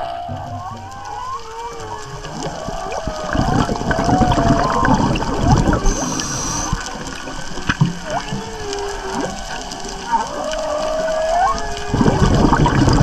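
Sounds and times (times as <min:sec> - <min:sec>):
water bubbling and gurgling: 0:00.0 - 0:13.0
whale song: 0:00.0 - 0:13.0.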